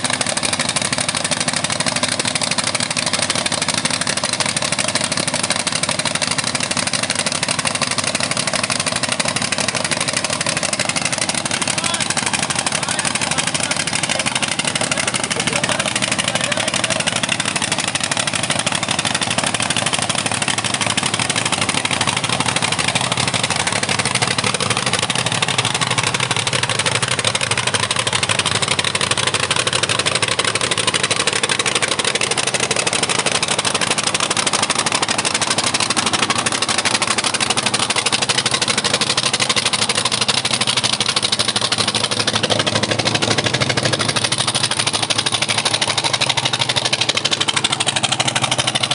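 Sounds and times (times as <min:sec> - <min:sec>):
dredger engine running: 0:00.0 - 0:48.9.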